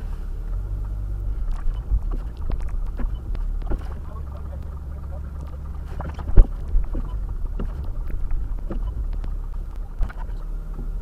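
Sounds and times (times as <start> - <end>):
car interior rumble on snow: 0.0 - 11.0
knocks and thump: 1.5 - 11.0.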